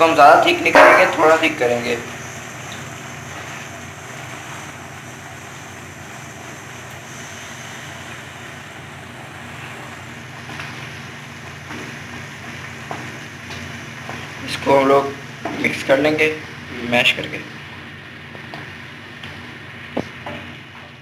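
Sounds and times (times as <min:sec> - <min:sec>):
batter hissing in a pan: 0:00.0 - 0:20.9.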